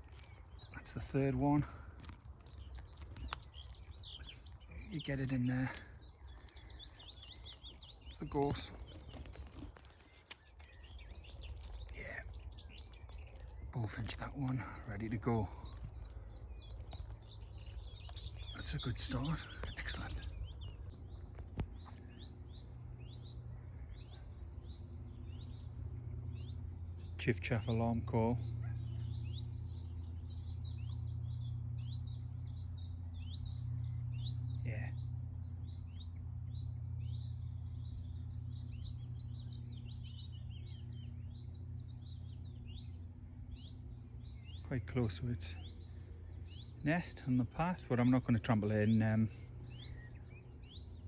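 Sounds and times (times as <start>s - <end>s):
songbirds chirping and trilling: 0.0s - 51.0s
steady low rumble: 0.0s - 51.0s.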